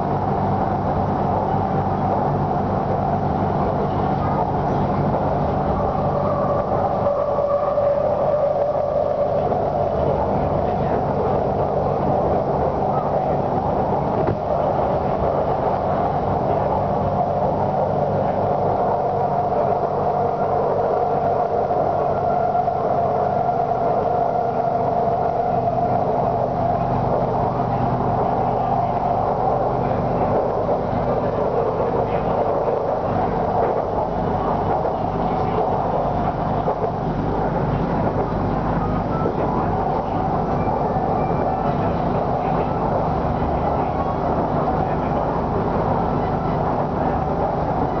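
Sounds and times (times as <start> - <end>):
train motor whine: 0.0 - 48.0
train running noise: 0.0 - 48.0.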